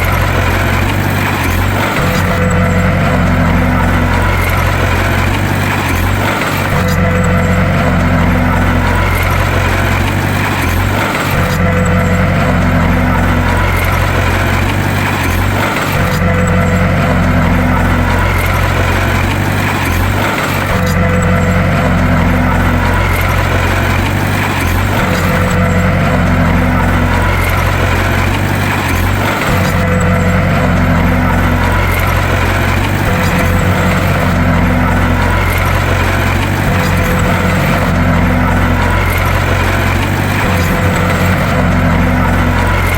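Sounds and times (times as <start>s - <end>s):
bulldozer engine rumbling: 0.0s - 42.9s.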